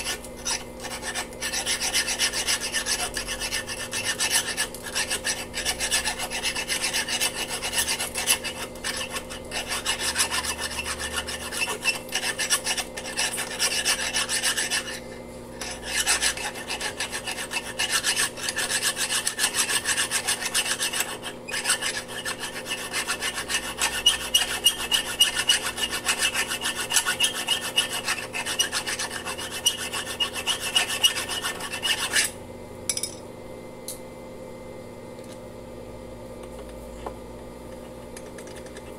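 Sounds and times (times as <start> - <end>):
hand file rasping on steel: 0.0 - 32.4.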